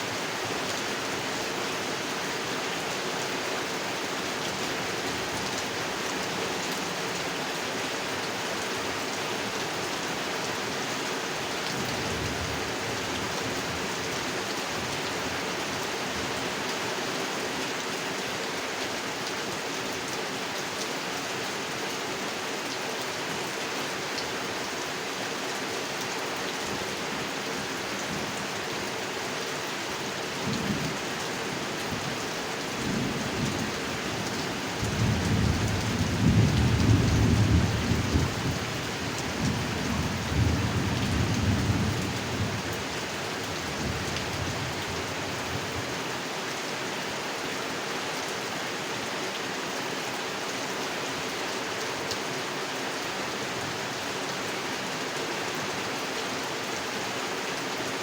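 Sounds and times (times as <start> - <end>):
heavy rain falling on a pond: 0.0 - 58.0.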